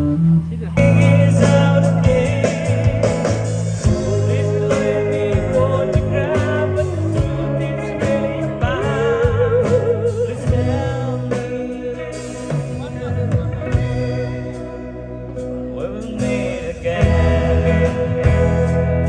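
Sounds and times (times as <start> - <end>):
band playing with singer: 0.0 - 19.0.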